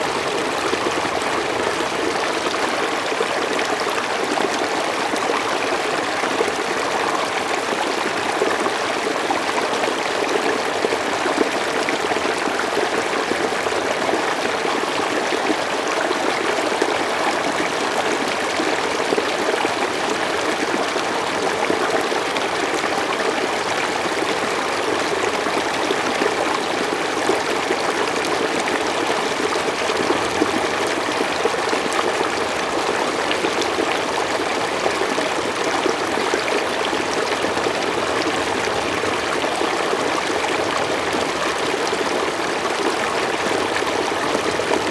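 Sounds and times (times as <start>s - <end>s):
stream flowing over rocks: 0.0s - 44.9s.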